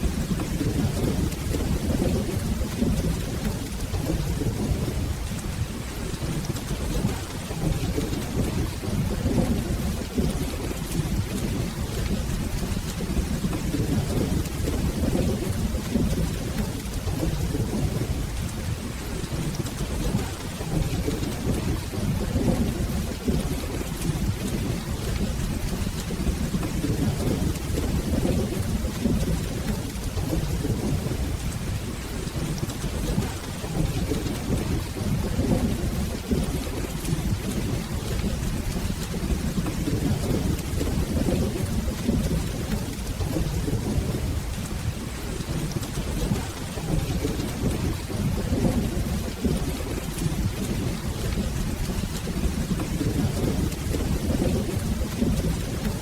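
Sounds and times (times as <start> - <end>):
low rolling thunder: 0.0 - 56.0
steady rain: 0.0 - 56.0.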